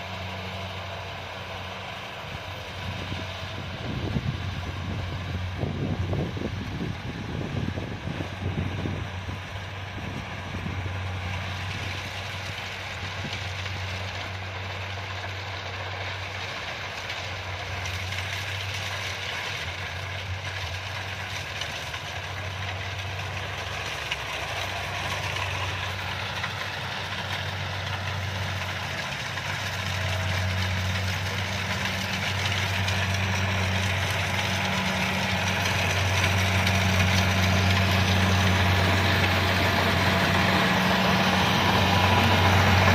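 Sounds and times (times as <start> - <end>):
combine harvester diesel engine running: 0.0 - 42.9.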